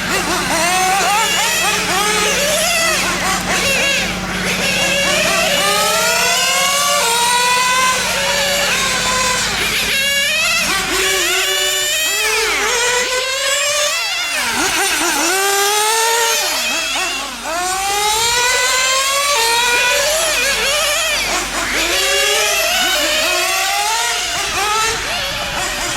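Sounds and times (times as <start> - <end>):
small rc car engines revving: 0.0 - 25.9.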